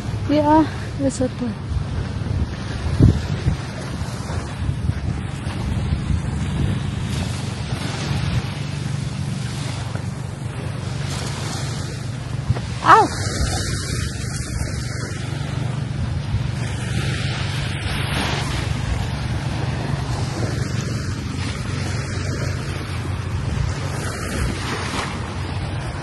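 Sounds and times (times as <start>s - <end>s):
small waves washing on beach: 0.0s - 26.0s
wind on microphone: 0.0s - 26.0s.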